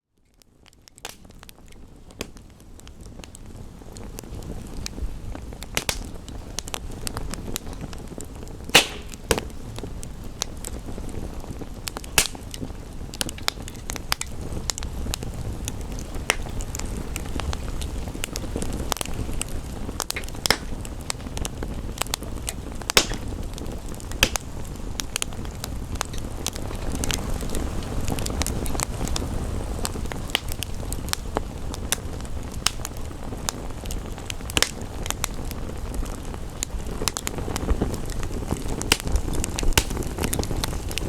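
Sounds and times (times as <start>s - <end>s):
wood fire crackling: 0.1s - 41.0s.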